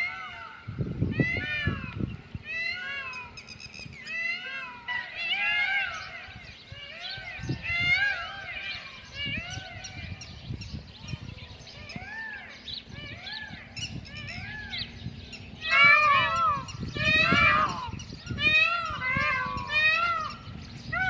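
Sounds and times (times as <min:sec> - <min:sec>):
peafowl calling: 0:00.0 - 0:21.0
wind rumble on microphone: 0:00.0 - 0:21.0.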